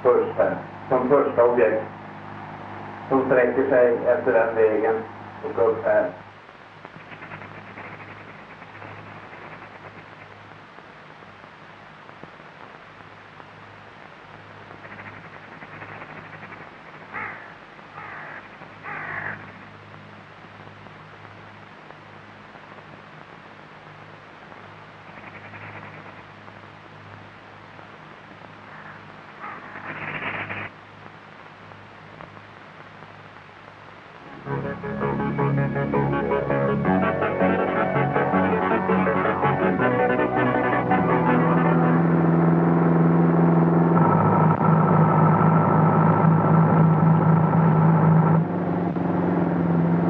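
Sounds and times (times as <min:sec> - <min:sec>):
film soundtrack hiss and hum: 0:00.0 - 0:50.0.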